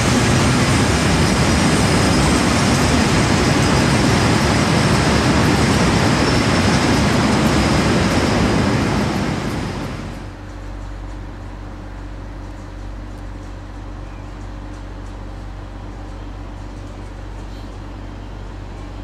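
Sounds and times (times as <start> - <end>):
train passing on rails: 0.0 - 19.0.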